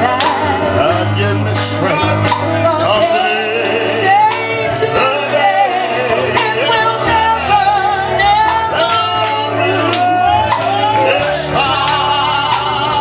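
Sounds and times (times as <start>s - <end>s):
gospel singing: 0.0s - 13.0s
instrumental accompaniment: 0.0s - 13.0s.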